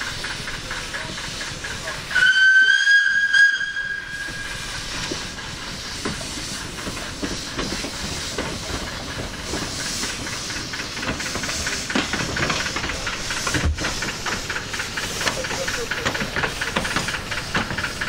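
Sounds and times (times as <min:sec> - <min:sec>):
locomotive running gear clanking: 0:00.0 - 0:18.0
steam hissing: 0:00.0 - 0:18.0.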